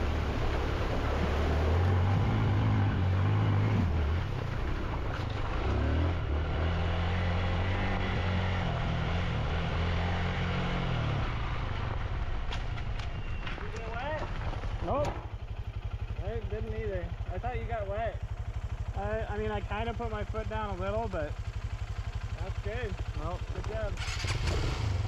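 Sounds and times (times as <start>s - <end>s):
rushing wind and tyres: 0.0s - 16.6s, 21.3s - 25.0s
motorcycle engine running: 0.0s - 25.0s.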